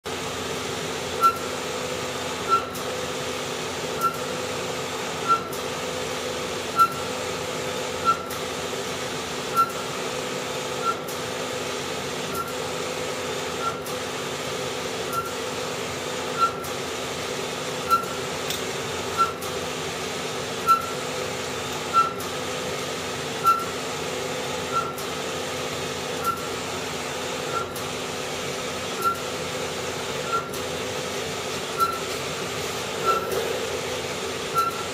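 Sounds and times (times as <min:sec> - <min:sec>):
printer mechanical hum: 0:00.1 - 0:34.9.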